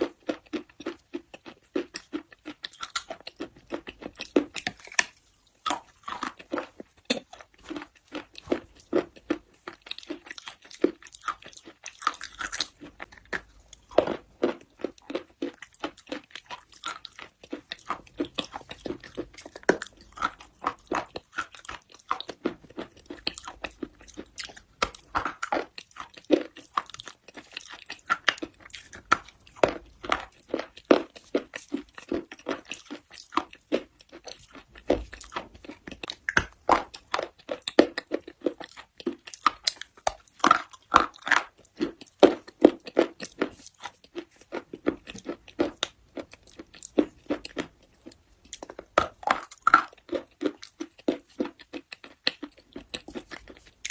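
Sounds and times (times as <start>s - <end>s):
person chewing slate: 0.0s - 53.9s.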